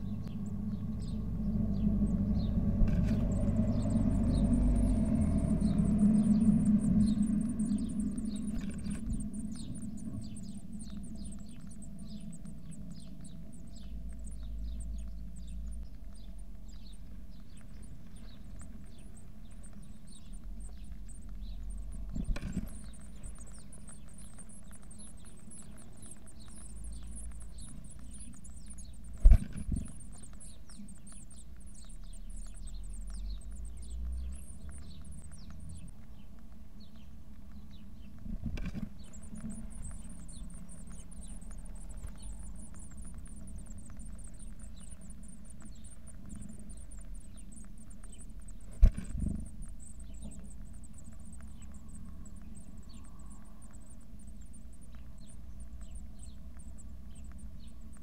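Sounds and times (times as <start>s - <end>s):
nestlings cheeping: 0.0s - 58.0s.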